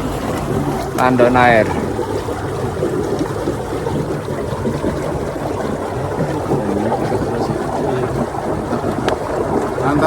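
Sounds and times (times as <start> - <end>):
water pouring and gurgling into tank: 0.0 - 10.0.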